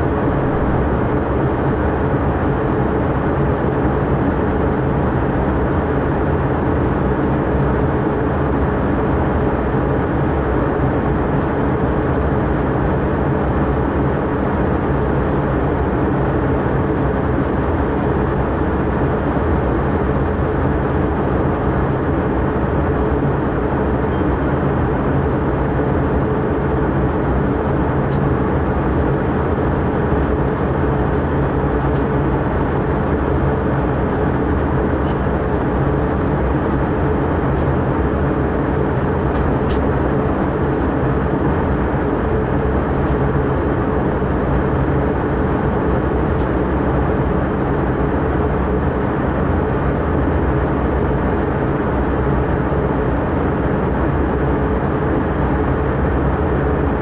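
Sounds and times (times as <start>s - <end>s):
low jet engine drone: 0.0s - 57.0s.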